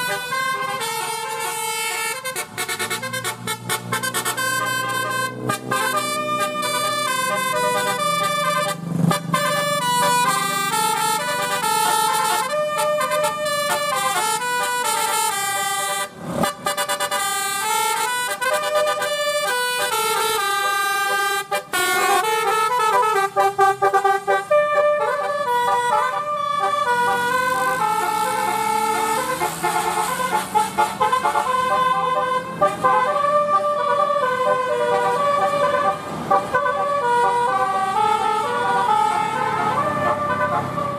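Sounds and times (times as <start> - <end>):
gliding siren-like horn tones: 0.0 - 40.9
musical air horns playing melody: 0.0 - 40.9.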